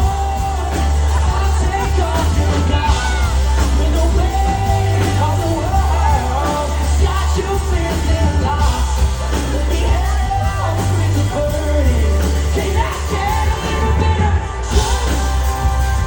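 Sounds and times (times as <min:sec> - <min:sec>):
booming bass: 0:00.0 - 0:16.0
live rock band playing: 0:00.0 - 0:16.0
person singing: 0:00.0 - 0:16.0.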